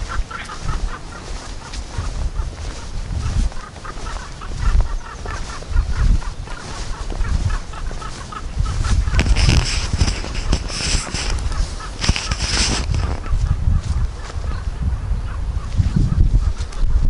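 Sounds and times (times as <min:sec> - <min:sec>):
birds calling: 0:00.0 - 0:17.0
low uneven microphone rumble: 0:00.0 - 0:17.0.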